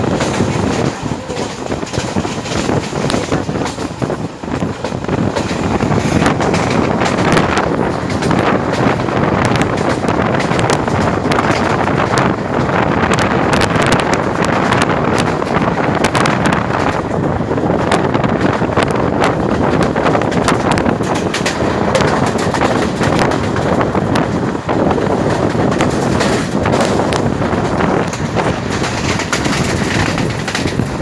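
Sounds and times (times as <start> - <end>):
sharp clicks and rattles: 0.0 - 31.0
train running noise: 0.0 - 31.0
wind rushing over microphone: 0.0 - 31.0.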